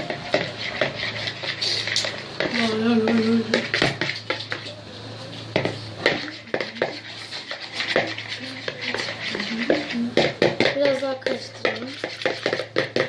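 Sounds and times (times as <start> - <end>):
metal spoon scraping a bowl: 0.0 - 13.0.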